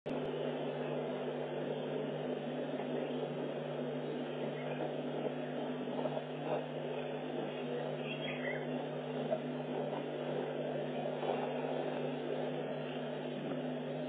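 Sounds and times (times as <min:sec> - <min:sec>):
low hum: 0:00.1 - 0:14.0.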